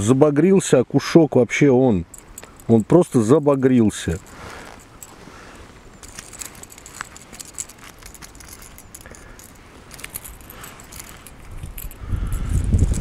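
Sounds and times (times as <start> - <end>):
fishing hooks jingling: 2.0 - 13.0.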